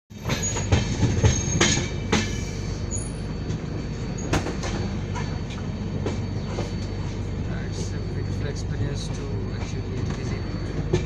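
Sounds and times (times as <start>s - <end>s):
train rumbling from inside a coach: 0.1s - 11.0s
train wheels clacking: 0.1s - 11.0s.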